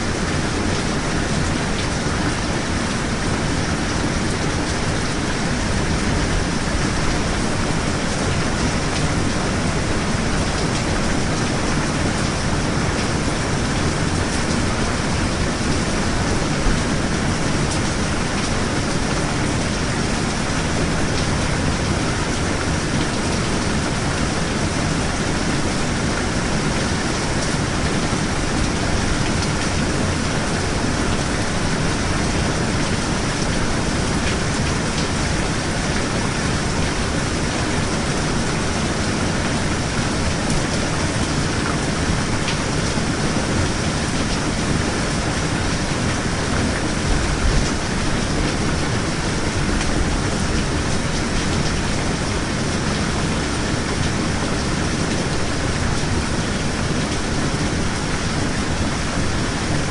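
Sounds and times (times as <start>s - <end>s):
heavy rain hissing: 0.0s - 59.9s.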